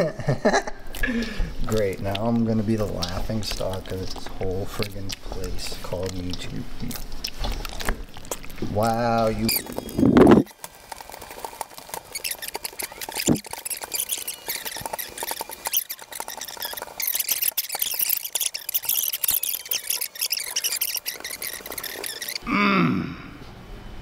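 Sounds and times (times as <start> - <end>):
hands squishing wet dough: 0.8 - 22.5.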